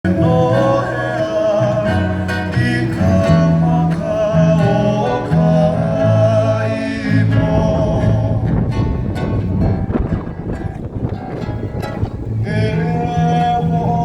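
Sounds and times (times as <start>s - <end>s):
bass line: 0.0s - 14.0s
plucked string melody: 0.1s - 14.0s.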